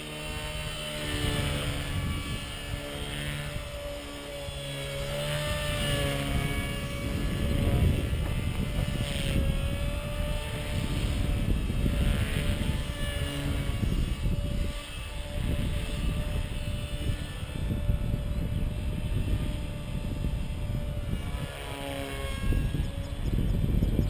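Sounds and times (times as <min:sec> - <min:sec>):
rc helicopter motor whine: 0:00.0 - 0:24.0.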